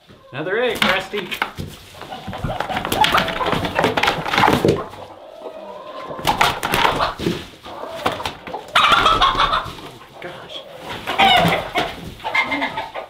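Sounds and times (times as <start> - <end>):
knocks and scuffling: 0.0 - 5.2, 6.0 - 13.0
chickens squawking and clucking: 0.0 - 13.0.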